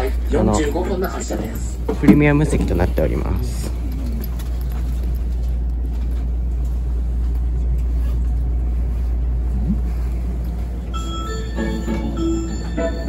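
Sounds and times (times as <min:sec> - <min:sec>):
train car equipment hum: 0:00.0 - 0:13.0.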